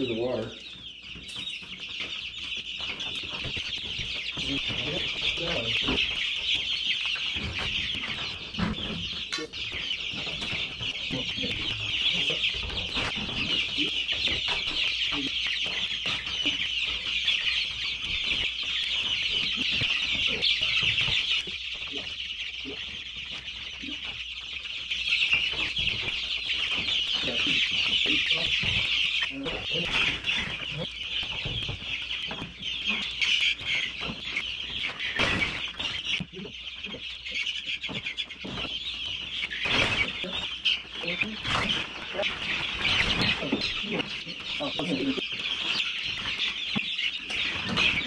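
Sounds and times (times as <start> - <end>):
chicks peeping: 0.0 - 48.0.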